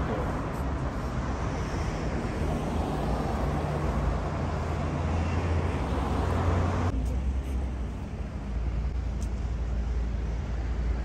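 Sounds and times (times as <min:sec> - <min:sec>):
passing vehicles: 0:00.0 - 0:11.0.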